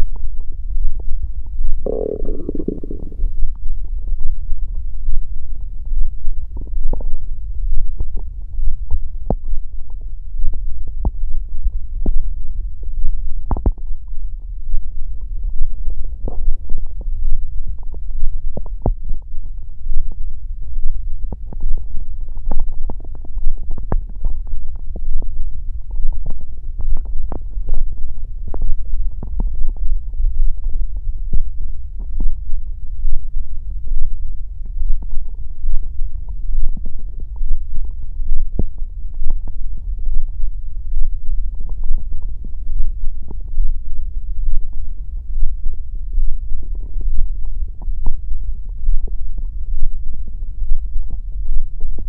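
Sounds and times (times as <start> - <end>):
stomach growling and gurgling: 0.0 - 12.4, 13.0 - 14.2, 14.8 - 43.8.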